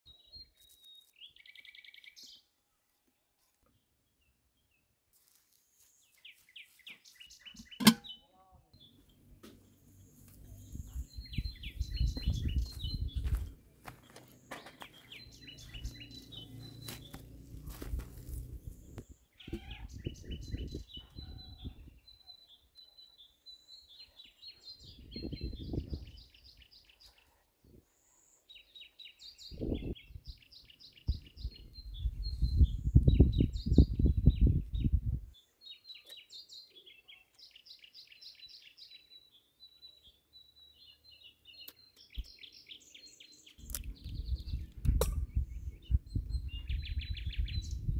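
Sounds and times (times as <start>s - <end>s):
songbirds chirping trills: 0.1s - 47.9s.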